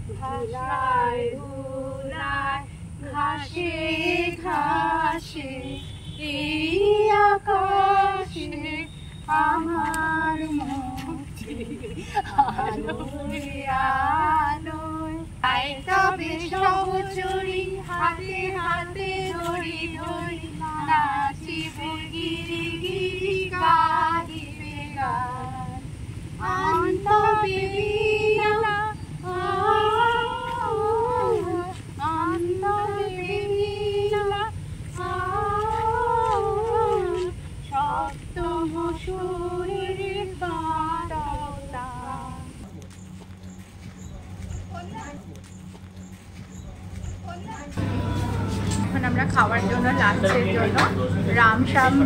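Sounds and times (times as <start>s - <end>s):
woman singing unaccompanied: 0.0s - 42.6s, 44.6s - 45.3s, 47.2s - 52.0s.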